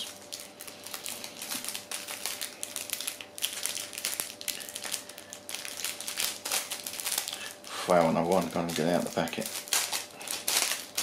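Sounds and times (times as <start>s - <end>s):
plastic and paper sachets crinkling: 0.0s - 11.0s.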